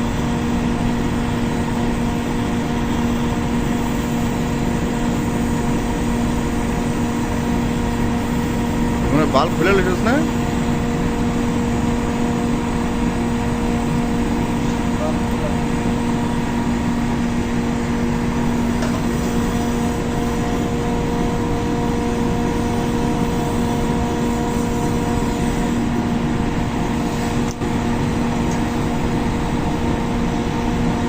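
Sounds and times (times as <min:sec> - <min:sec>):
gas torch flame roaring: 0:00.0 - 0:31.0
mechanical hum: 0:00.0 - 0:31.0.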